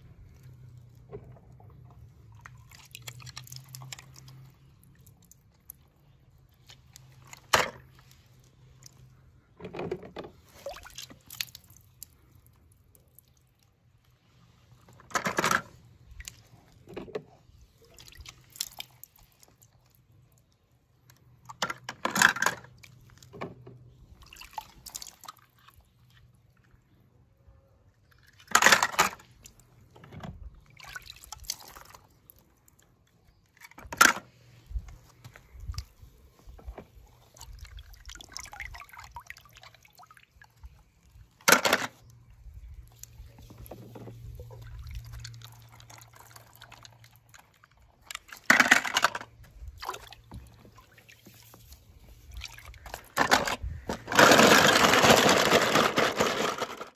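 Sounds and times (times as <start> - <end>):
hand stirring water in tub: 0.0 - 27.2, 28.0 - 56.9.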